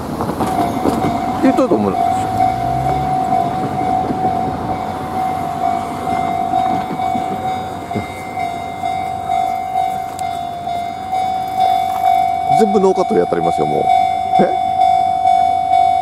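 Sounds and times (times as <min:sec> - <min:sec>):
steady rumbling noise: 0:00.0 - 0:14.6
level crossing bell ringing: 0:00.6 - 0:16.0.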